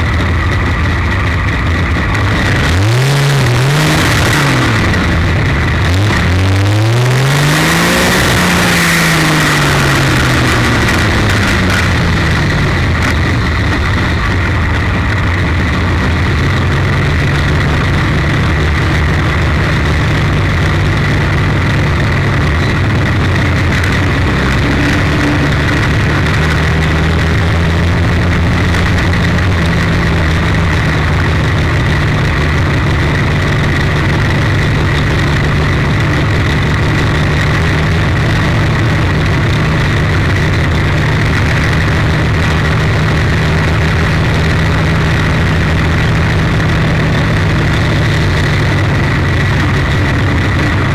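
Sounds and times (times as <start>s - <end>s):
high whine: 0.0s - 50.9s
race car engine idling: 0.0s - 50.9s.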